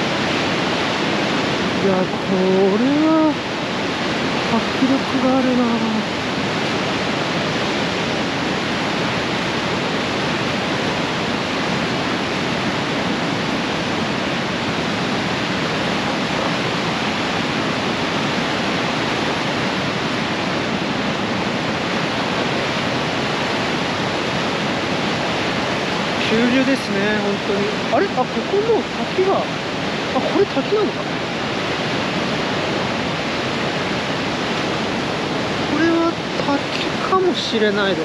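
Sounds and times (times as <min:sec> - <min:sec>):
whitewater rushing: 0:00.0 - 0:38.0.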